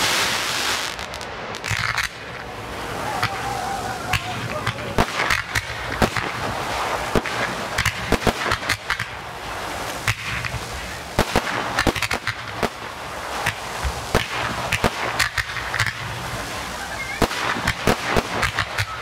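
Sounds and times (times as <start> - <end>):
fireworks banging: 0.0 - 19.0
steady hiss: 0.0 - 19.0.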